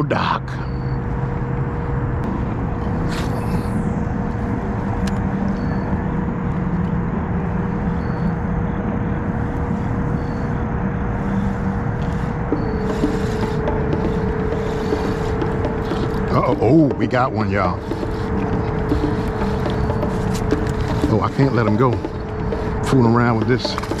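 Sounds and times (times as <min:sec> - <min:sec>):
wind: 0:00.0 - 0:24.0
electric motor whine: 0:00.8 - 0:24.0.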